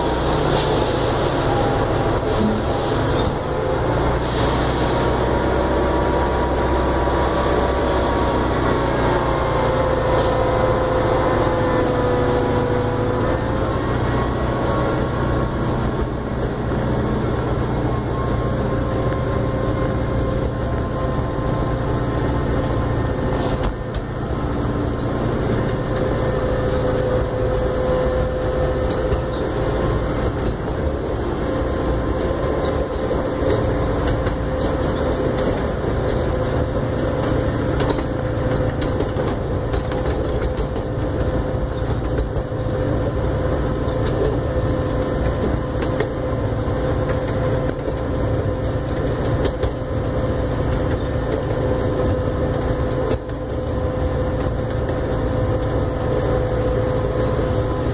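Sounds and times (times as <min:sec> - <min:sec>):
small train rumbling: 0:00.0 - 0:57.9.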